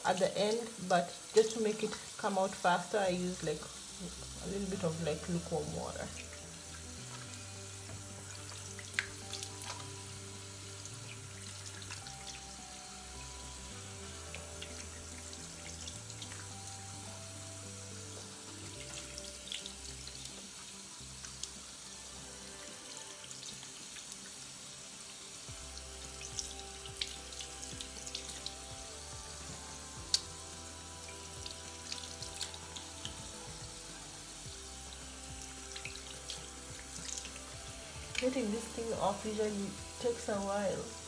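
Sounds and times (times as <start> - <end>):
background music: 0.0 - 41.0
tap water running into sink: 0.0 - 41.0.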